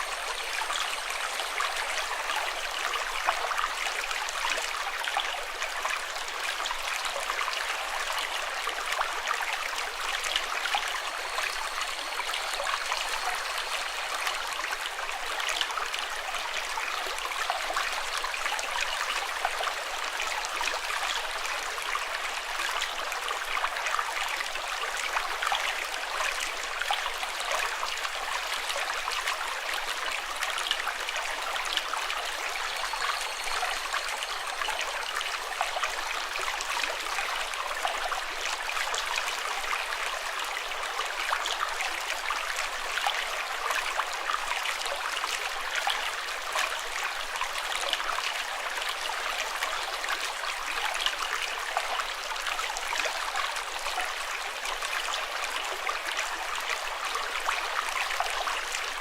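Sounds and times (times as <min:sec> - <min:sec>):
water running over rocks: 0:00.0 - 0:59.0.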